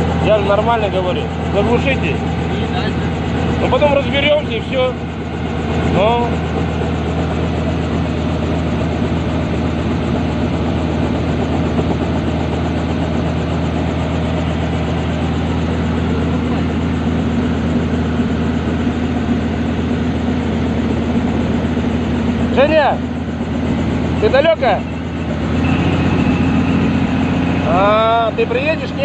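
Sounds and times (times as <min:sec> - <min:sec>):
helicopter engine running: 0:00.0 - 0:29.0.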